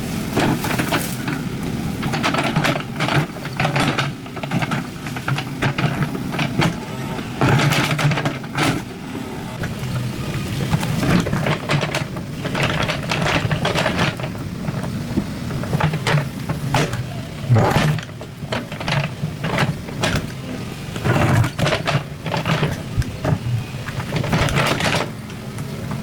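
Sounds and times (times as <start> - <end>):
diesel engine running: 0.0 - 26.0
digging clanks and scrapes: 0.2 - 9.0, 9.6 - 25.3.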